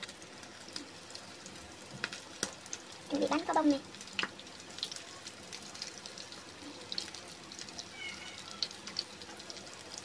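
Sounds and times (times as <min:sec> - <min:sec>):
frog sizzling in hot oil: 0:00.0 - 0:10.0.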